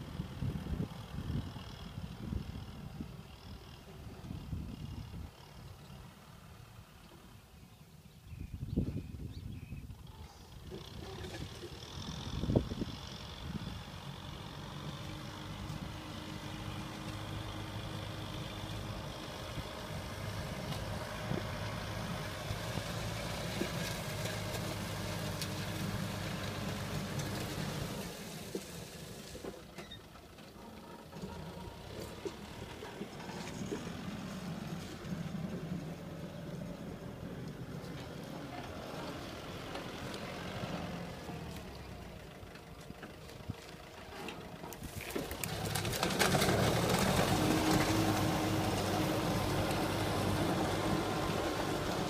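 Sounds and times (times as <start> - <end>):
diesel tractor engine running: 0.0 - 7.5, 10.0 - 52.0.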